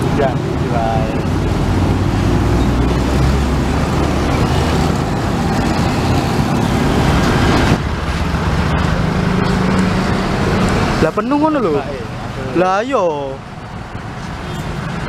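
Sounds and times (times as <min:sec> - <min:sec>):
diesel bus engine passing: 0:00.0 - 0:15.0
street traffic: 0:00.0 - 0:15.0.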